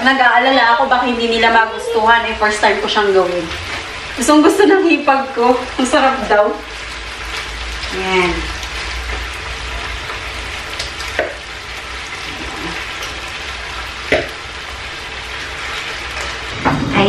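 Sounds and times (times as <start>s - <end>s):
meat sizzling in a pan: 0.0s - 17.0s.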